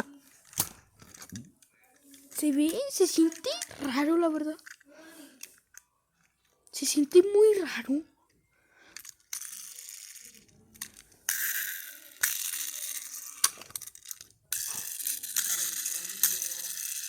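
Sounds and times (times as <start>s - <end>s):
toy car clicks and scrapes: 0.0s - 6.6s, 8.8s - 17.0s.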